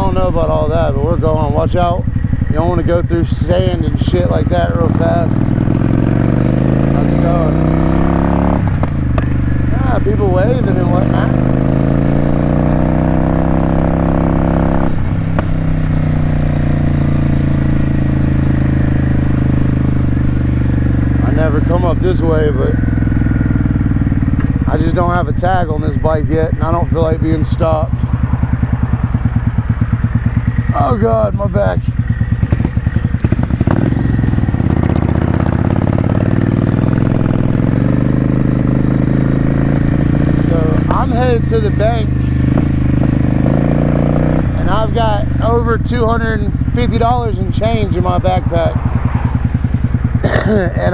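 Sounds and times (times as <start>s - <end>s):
motorcycle engine pulling: 0.0s - 50.9s.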